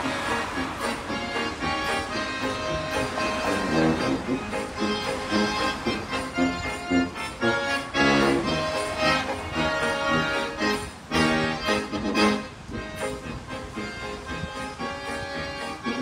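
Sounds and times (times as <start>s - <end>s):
accordion: 0.0s - 16.0s
banjo: 0.0s - 16.0s
tuba low notes: 0.0s - 16.0s.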